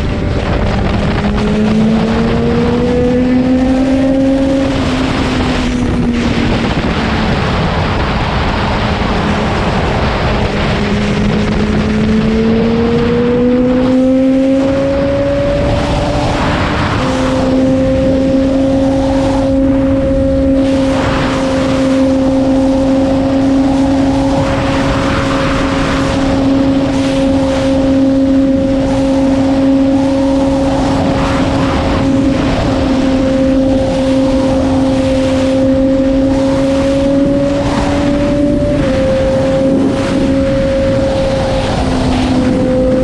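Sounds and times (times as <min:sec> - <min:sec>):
motorcycle engine at high pitch: 0:00.0 - 0:43.0
wind rushing over microphone: 0:00.0 - 0:43.0.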